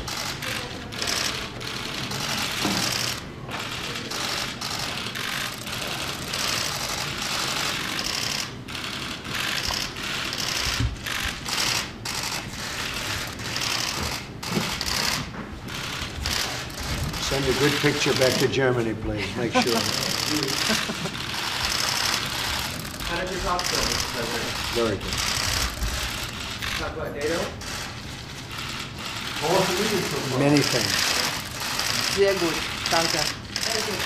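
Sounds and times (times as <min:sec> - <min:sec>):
camera shutters clicking: 0:00.1 - 0:18.5, 0:19.7 - 0:26.9, 0:27.6 - 0:34.0.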